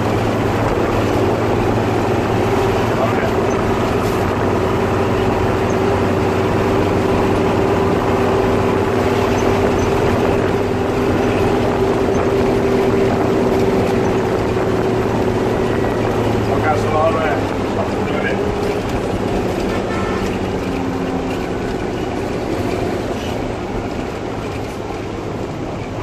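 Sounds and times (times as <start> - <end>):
bus diesel engine droning: 0.0 - 26.0
road and wind noise: 0.0 - 26.0.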